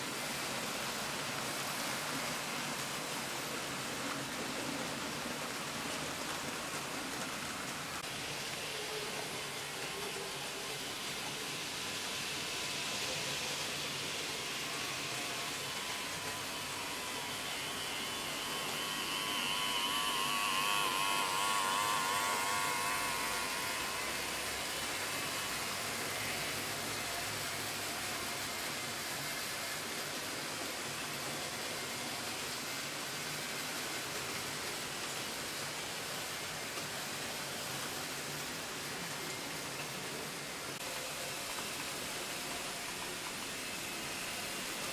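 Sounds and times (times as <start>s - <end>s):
model train running on track: 0.0s - 44.9s.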